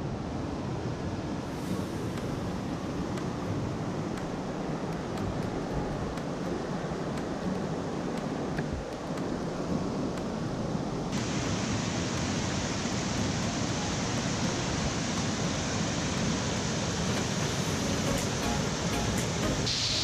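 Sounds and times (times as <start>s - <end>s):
rushing stream water: 0.0s - 20.0s.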